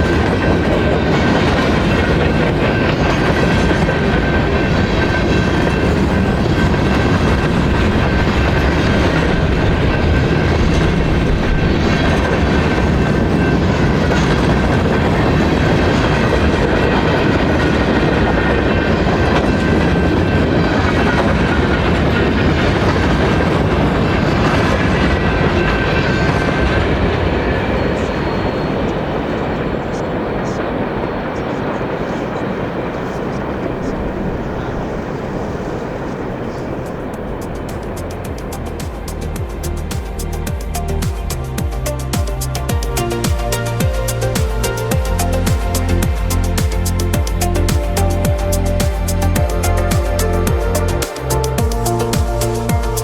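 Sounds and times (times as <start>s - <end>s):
wheels clattering over rails: 0.0s - 53.0s.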